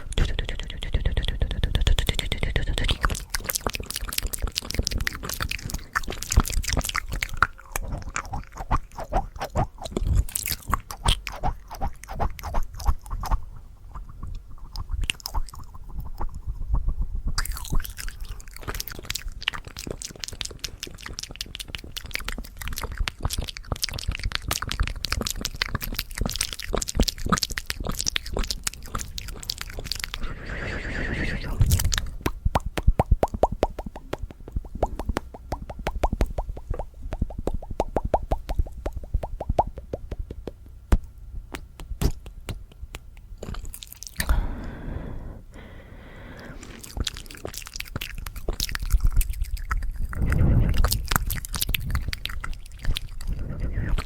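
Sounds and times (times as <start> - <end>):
wet mouth clicks and smacks: 0.0 - 16.6, 17.3 - 30.2, 31.2 - 44.7, 46.4 - 54.0.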